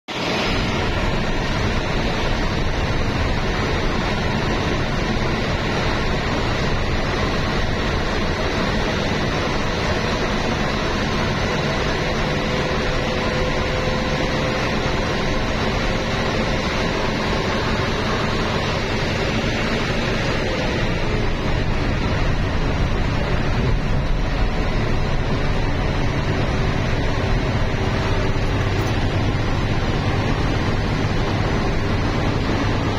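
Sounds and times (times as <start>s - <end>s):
tyre and wind road noise: 0.1s - 32.9s.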